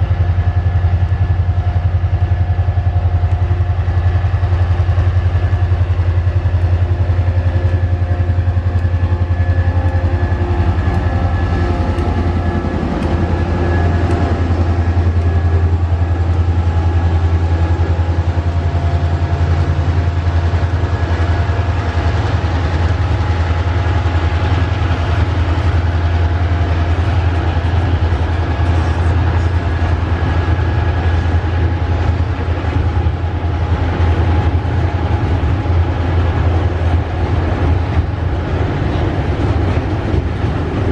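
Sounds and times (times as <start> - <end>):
locomotive engine drone: 0.0 - 40.9.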